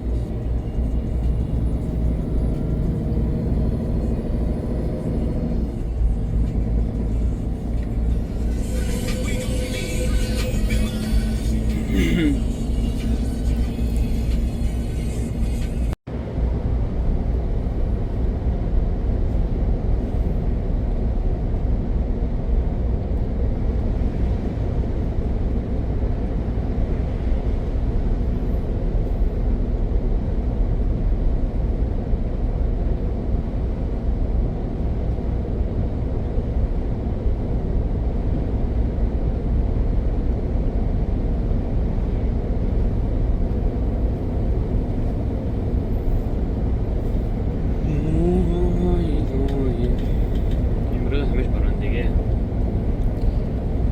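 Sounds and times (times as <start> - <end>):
heavy truck engine and road rumble: 0.0 - 53.9.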